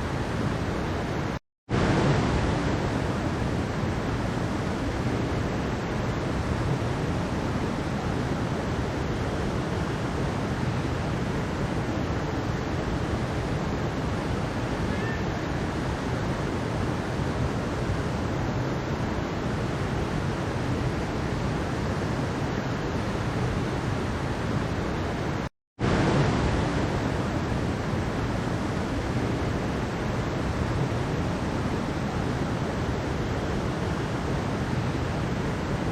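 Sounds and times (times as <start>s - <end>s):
mountain stream rushing: 0.0s - 35.9s.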